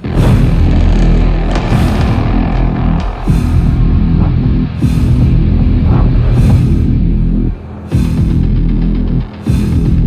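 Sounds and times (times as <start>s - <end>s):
music with heavy low beat: 0.0s - 10.0s.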